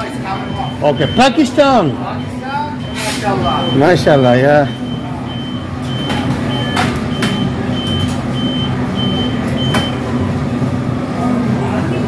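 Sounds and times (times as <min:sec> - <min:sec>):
oven timer beeping: 0:00.0 - 0:10.4.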